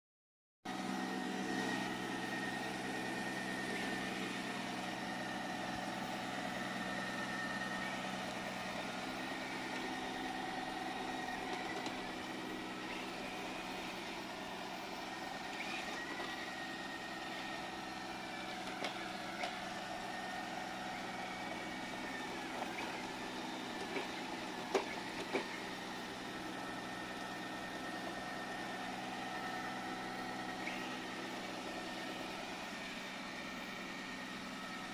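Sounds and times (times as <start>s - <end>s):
robot vacuum motor hum: 0.7s - 34.9s.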